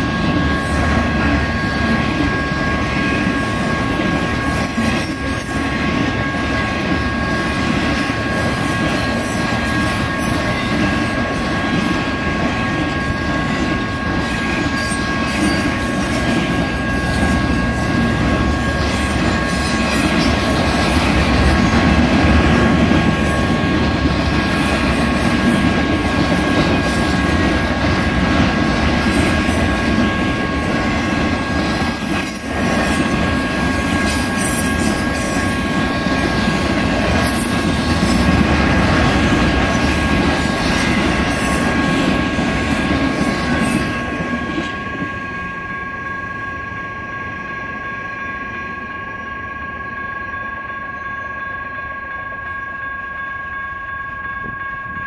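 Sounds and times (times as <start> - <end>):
crossing warning bell ringing: 0.0 - 55.0
freight train rumbling and rattling: 0.0 - 55.0.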